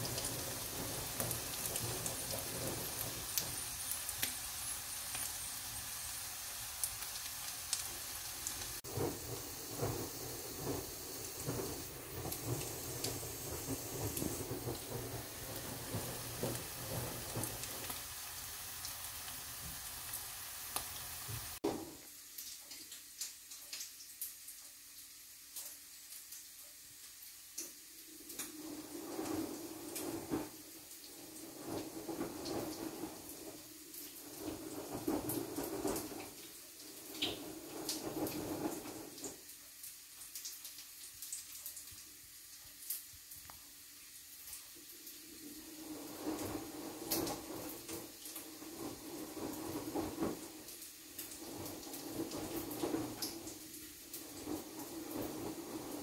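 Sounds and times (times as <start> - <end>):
water running: 0.0 - 25.0, 25.6 - 56.0.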